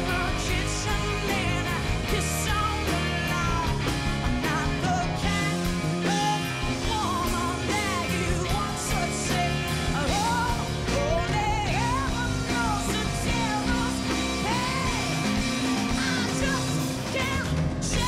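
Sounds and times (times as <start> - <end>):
woman singing: 0.0 - 3.8, 4.4 - 18.0
drums: 0.0 - 18.0
electric guitar: 0.0 - 18.0.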